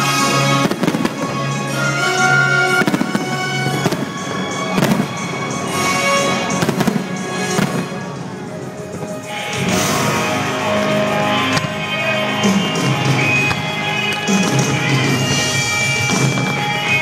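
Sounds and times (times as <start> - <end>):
fireworks bursting with bangs: 0.0 - 17.0
loud show music: 0.0 - 17.0.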